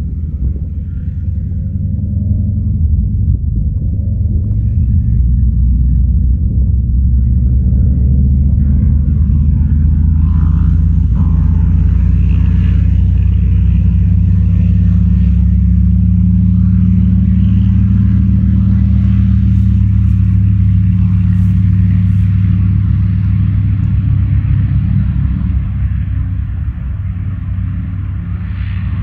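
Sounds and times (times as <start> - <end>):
aircraft engine rumbling: 0.0 - 29.0.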